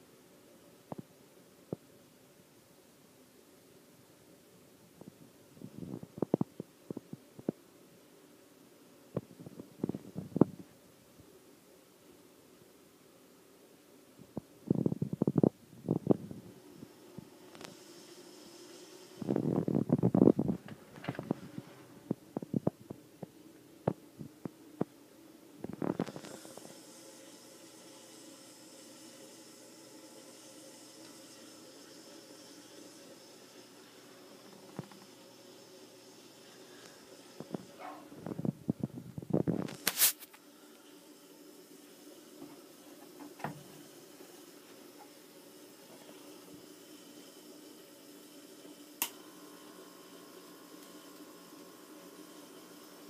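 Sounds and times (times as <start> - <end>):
aquarium pumps humming: 3.4 - 53.0.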